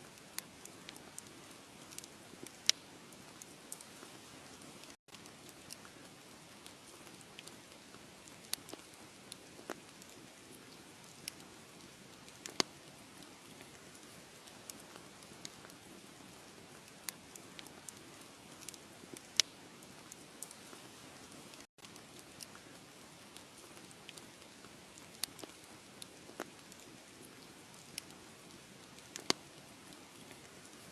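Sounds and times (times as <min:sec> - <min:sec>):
wood fire crackling: 0:00.1 - 0:30.9.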